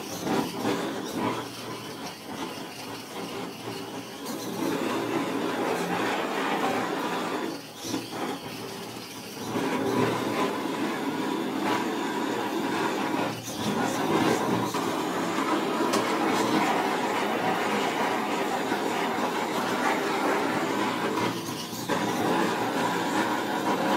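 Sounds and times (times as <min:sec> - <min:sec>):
gas torch rushing: 0:00.0 - 0:23.9.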